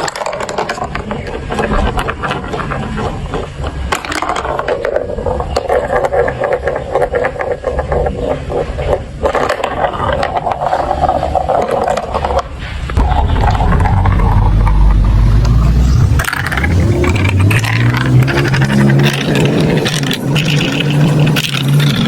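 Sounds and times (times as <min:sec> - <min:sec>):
marbles rattling on plastic tracks: 0:00.0 - 0:12.6, 0:16.2 - 0:22.0
scraping rumble: 0:00.0 - 0:22.0.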